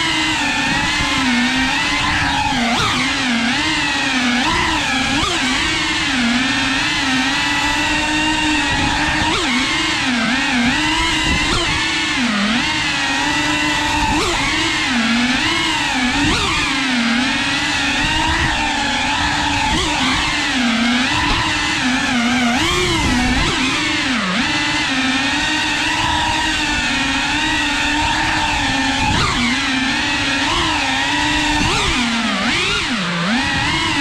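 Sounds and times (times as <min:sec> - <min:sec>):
quadcopter motors whining: 0:00.0 - 0:34.0.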